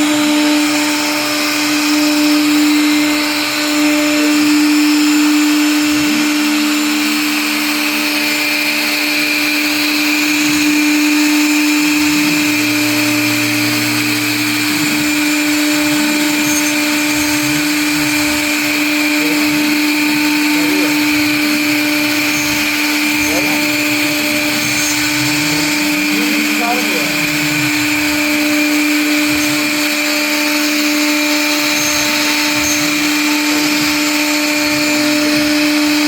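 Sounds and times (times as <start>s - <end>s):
motor tones shifting pitch: 0.0s - 36.0s
router spindle whining: 0.0s - 36.0s.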